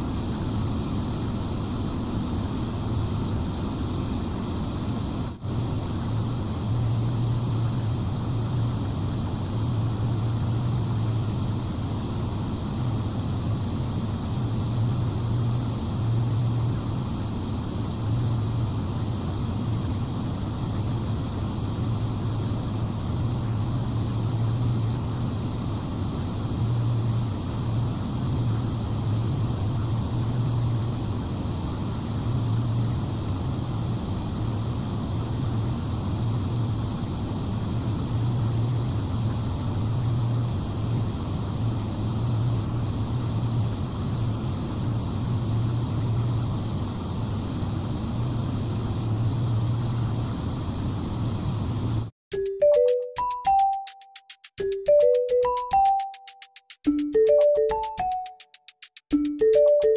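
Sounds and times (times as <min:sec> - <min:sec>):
cooling fan air rushing: 0:00.0 - 0:52.9
low electrical hum: 0:00.0 - 0:52.9.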